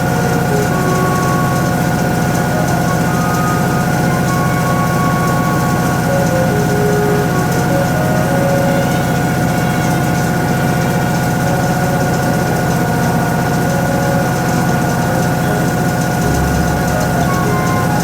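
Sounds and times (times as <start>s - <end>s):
constant whine: 0.0s - 18.0s
washing machine motor hum: 0.0s - 18.0s.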